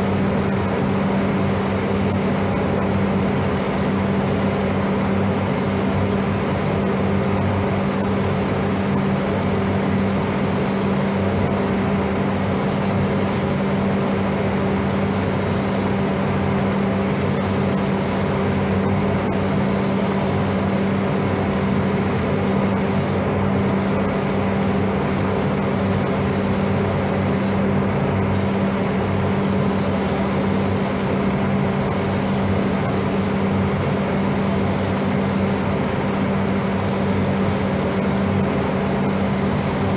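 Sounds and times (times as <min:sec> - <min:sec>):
spray gun hissing: 0:00.0 - 0:39.9
ventilation fans humming: 0:00.0 - 0:39.9.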